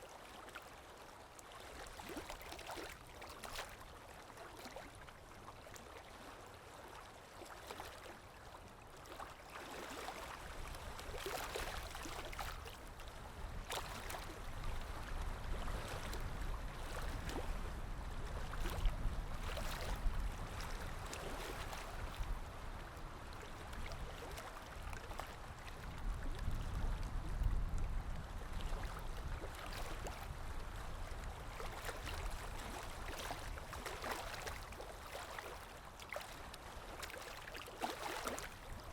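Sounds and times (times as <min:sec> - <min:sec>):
small water splashes: 0:00.0 - 0:38.9.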